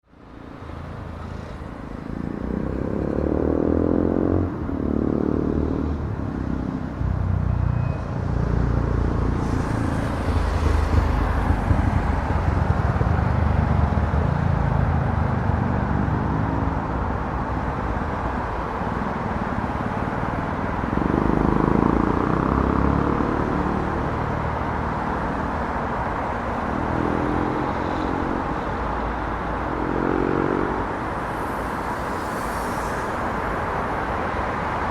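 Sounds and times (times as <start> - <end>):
rumble of road traffic: 0.0 - 34.9
vehicle engines passing: 0.2 - 34.9.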